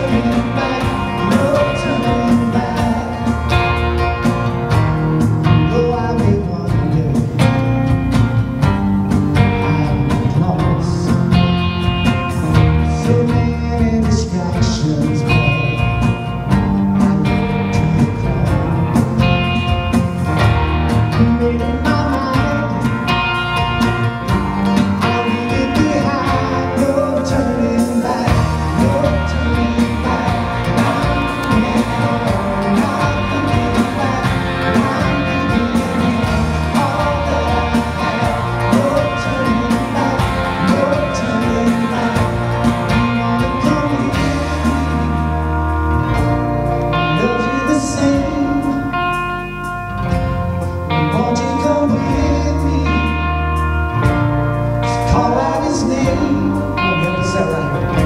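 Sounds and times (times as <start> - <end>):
man singing: 0.0 - 8.0, 9.4 - 11.5, 12.5 - 19.6, 20.9 - 24.0, 24.8 - 46.2, 47.0 - 49.2, 50.9 - 53.6, 54.8 - 58.0
acoustic guitars strummed: 0.0 - 58.0
bass guitar: 0.0 - 58.0
drums: 0.0 - 58.0.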